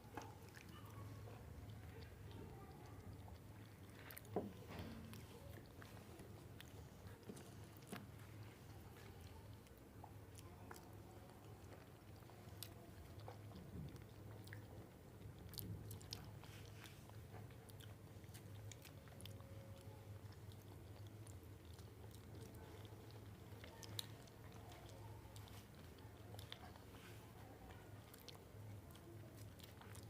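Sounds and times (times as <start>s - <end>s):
chewing and biting: 0.0s - 30.0s.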